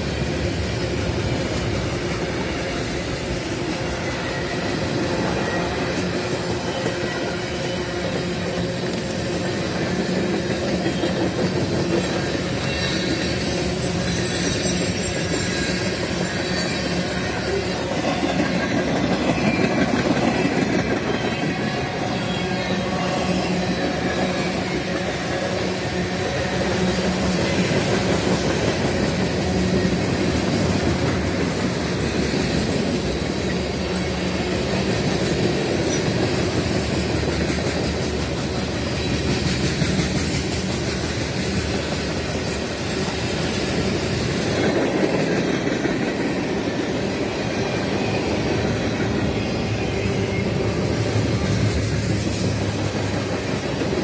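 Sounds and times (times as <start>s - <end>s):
steel wheels running on rails: 0.0s - 54.0s.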